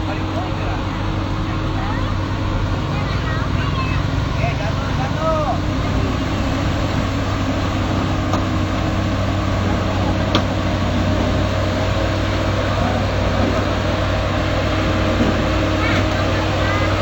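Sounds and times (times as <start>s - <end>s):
excavator diesel engine humming: 0.0s - 17.0s.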